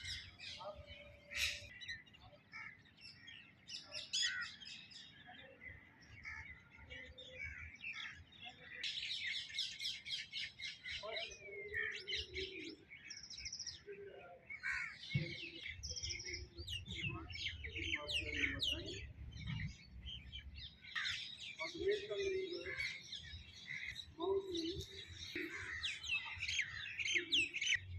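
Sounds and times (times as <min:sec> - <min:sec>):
birds chirping and calling: 0:00.0 - 0:27.9.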